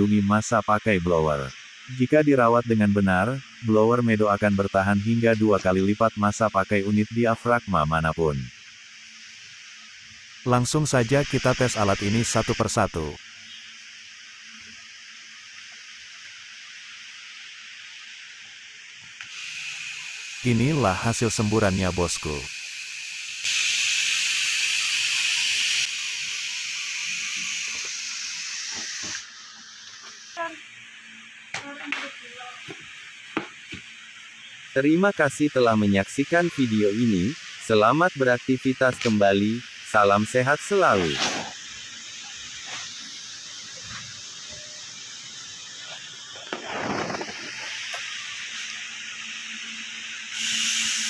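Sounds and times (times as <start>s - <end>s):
air pump hissing: 0.0s - 51.0s.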